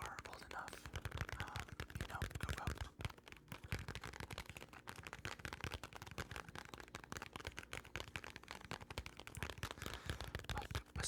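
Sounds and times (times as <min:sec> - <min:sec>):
soft clicks and taps: 0:00.0 - 0:11.0.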